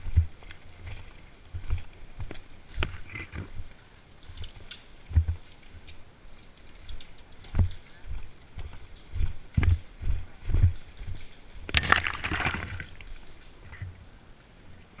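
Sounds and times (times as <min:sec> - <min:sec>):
footsteps with low thuds: 0:00.0 - 0:13.0.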